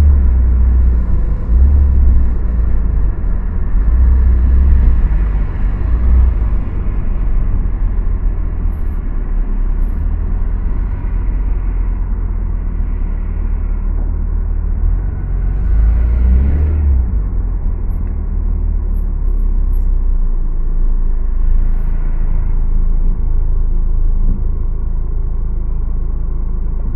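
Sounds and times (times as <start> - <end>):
car driving rumble: 0.0 - 26.9.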